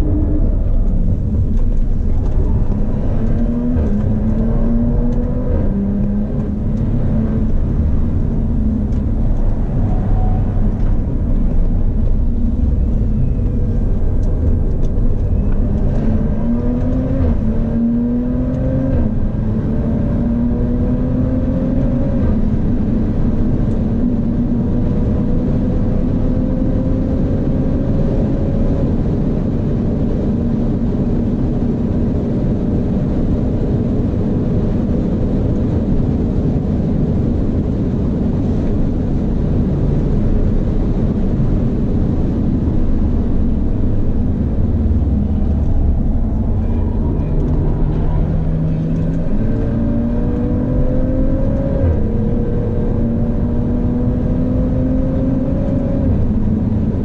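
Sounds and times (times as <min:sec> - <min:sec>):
car engine accelerating: 0:00.0 - 0:57.0
road and wind rumble: 0:00.0 - 0:57.0.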